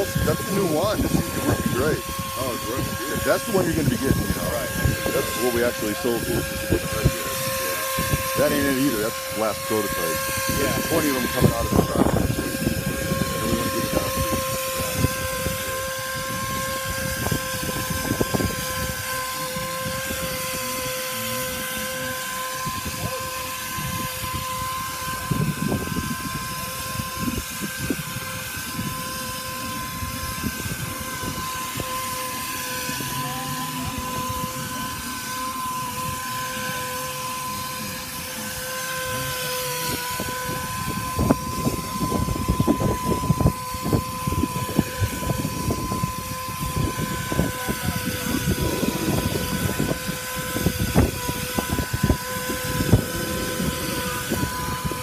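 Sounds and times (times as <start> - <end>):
low rumbling: 0.0 - 55.0
spray machine whine: 0.0 - 55.0.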